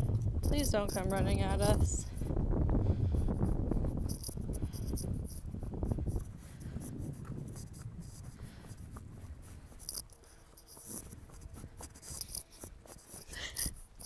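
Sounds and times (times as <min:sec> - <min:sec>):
small ticks: 0:00.0 - 0:02.2, 0:03.3 - 0:14.0
rubbing and scraping on phone: 0:00.0 - 0:02.4, 0:03.0 - 0:14.0.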